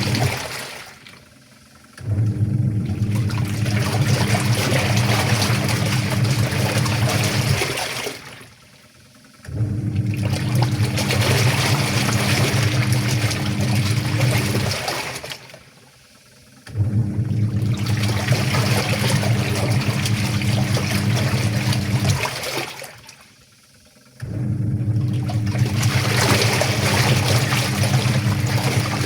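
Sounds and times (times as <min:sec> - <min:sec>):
water and clothes churning: 0:00.0 - 0:01.3, 0:02.0 - 0:08.7, 0:09.4 - 0:15.8, 0:16.7 - 0:23.3, 0:24.2 - 0:29.0
washing machine motor: 0:00.0 - 0:29.0.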